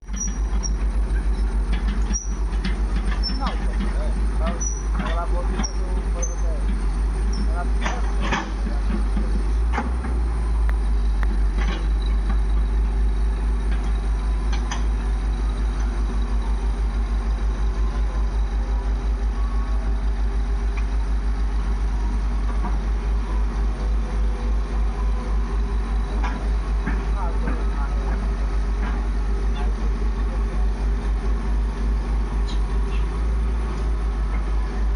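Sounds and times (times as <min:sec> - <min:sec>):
heavy diesel engine running: 0:00.0 - 0:34.9.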